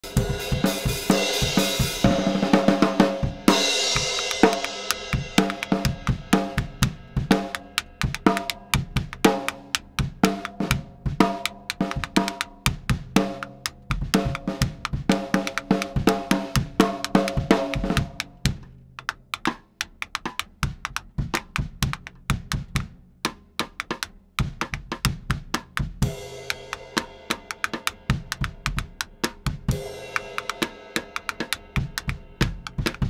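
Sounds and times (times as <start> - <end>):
drum kit groove: 0.0 - 33.0.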